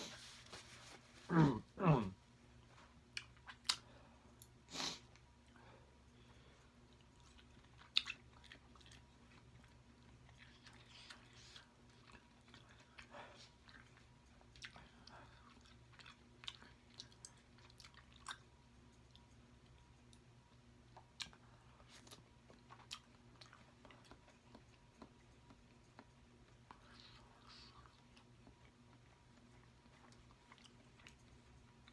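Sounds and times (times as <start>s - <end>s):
close-miked chewing: 2.9s - 31.9s.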